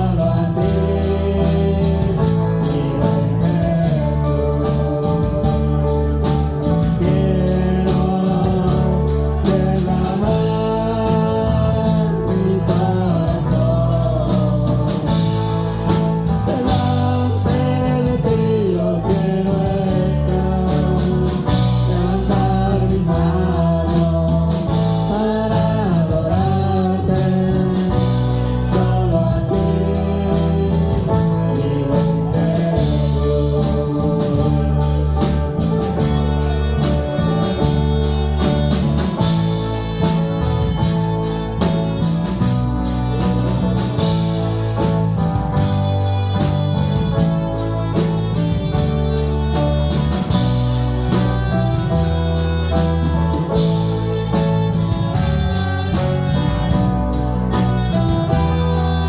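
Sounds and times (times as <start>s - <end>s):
person singing melody: 0.0s - 59.0s
worship band playing: 0.0s - 59.0s.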